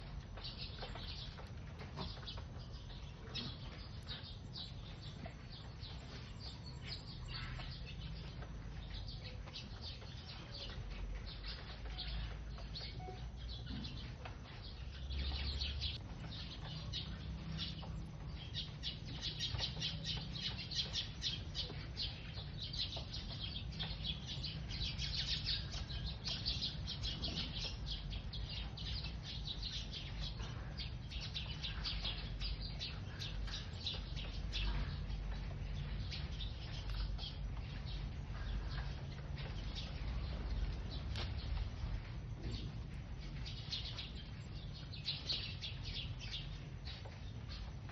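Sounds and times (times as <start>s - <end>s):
sparrows chirping: 0.0s - 47.9s.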